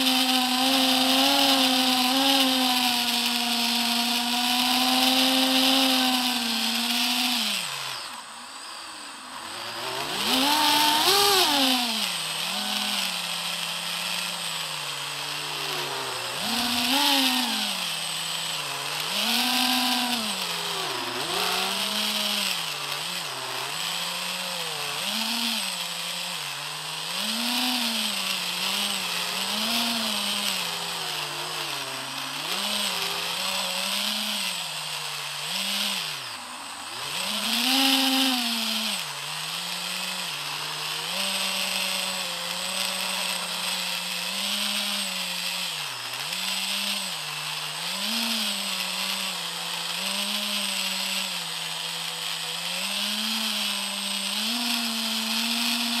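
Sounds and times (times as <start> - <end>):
drone propellers buzzing: 0.0 - 47.7, 54.4 - 56.0.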